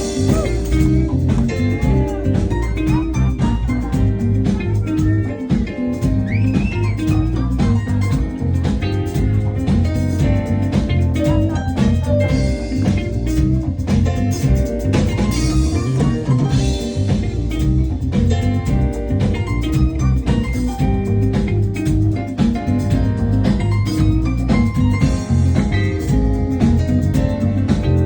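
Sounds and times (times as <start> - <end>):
drum kit: 0.0 - 28.0
electric bass line: 0.0 - 28.0
guitar: 0.0 - 28.0.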